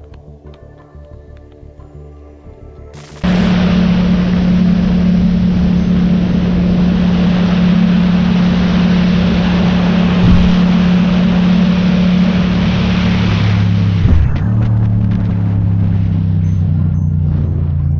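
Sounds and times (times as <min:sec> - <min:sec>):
motorcycle engine running: 0:03.0 - 0:17.9
wind rush: 0:03.2 - 0:17.9.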